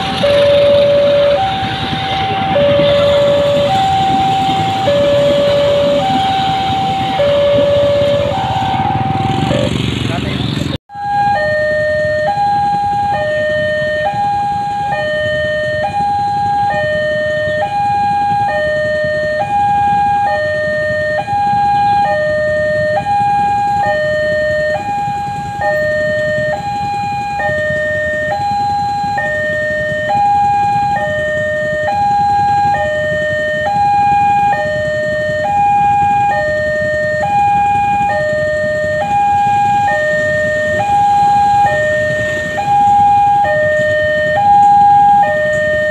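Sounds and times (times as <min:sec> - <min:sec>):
level crossing two-tone alarm: 0:00.0 - 0:09.7, 0:10.9 - 0:45.9
road traffic rumbling: 0:00.0 - 0:45.9.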